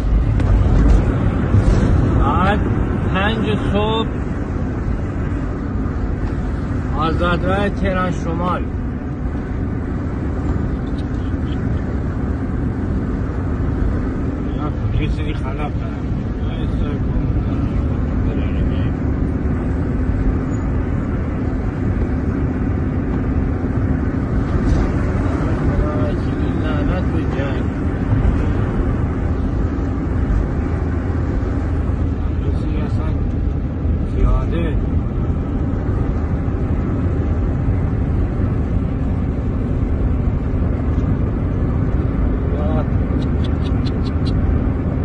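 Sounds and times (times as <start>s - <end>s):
car engine rumble: 0.0s - 45.0s
road noise: 0.0s - 45.0s.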